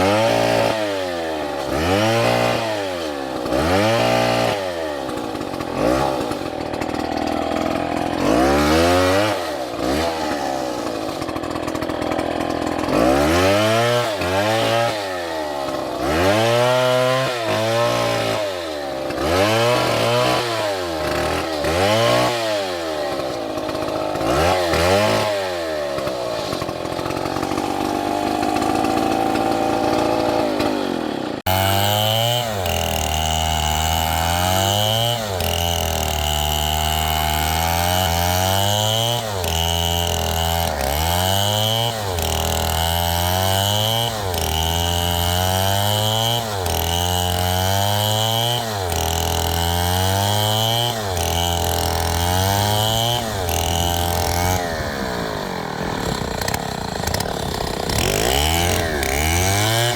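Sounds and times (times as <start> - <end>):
chainsaw running at high revs: 0.0 - 59.9.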